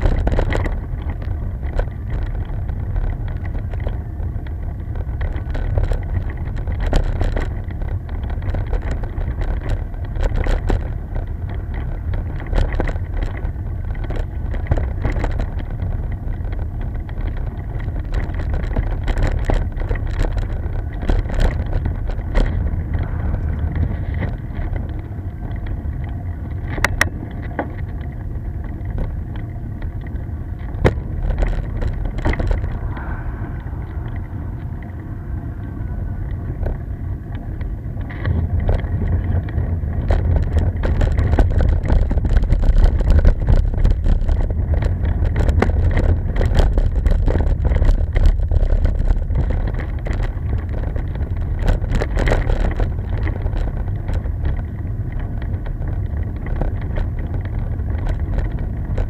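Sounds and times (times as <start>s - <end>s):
bicycle tyres rolling on road: 0.0s - 59.0s
small rattling clicks: 0.0s - 59.0s
wind rushing over microphone: 0.0s - 59.0s.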